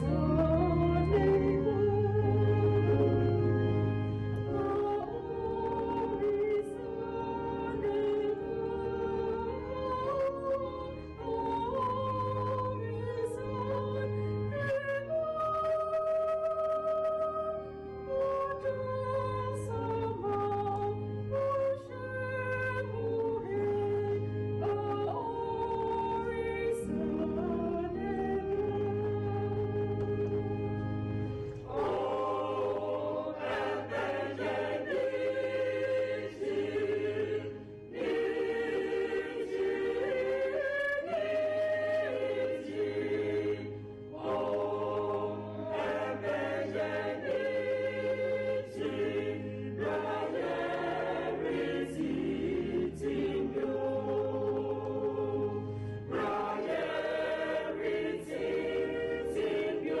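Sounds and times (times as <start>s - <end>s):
choir singing in harmony: 0.0s - 60.0s.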